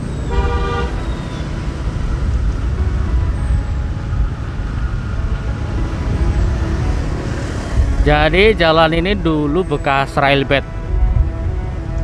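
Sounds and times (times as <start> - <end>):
heavy low traffic rumble: 0.0 - 12.0.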